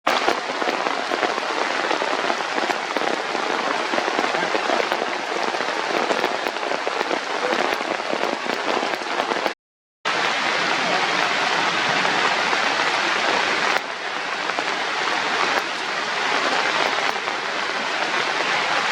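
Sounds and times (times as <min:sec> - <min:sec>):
dense crackling hiss: 0:00.1 - 0:18.9.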